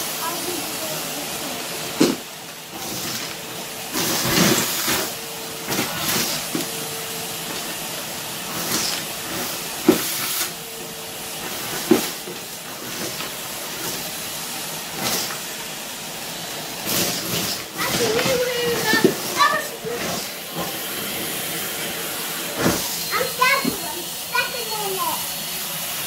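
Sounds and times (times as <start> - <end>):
vacuum cleaner sucking sawdust: 0.0 - 26.0.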